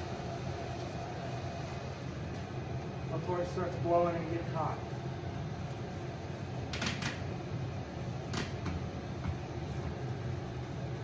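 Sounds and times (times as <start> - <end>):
heater fan humming: 0.0 - 11.0.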